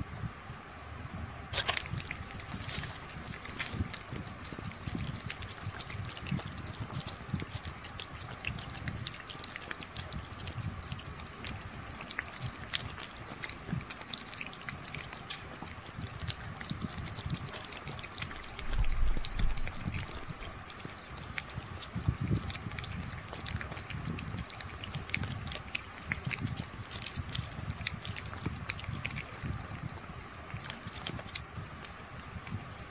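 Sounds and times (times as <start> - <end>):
kittens licking and lapping: 1.5 - 32.9.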